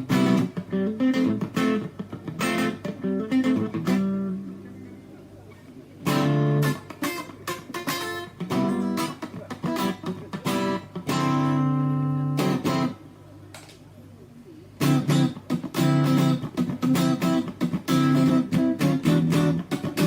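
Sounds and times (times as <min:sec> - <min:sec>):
electric guitar strummed chords: 0:00.0 - 0:05.2, 0:06.0 - 0:13.0, 0:14.8 - 0:20.0.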